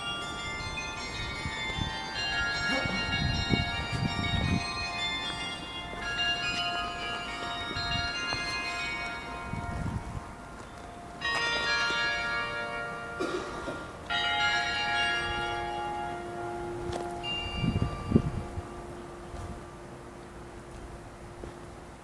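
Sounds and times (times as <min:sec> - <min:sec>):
bells ringing: 0:00.0 - 0:21.4.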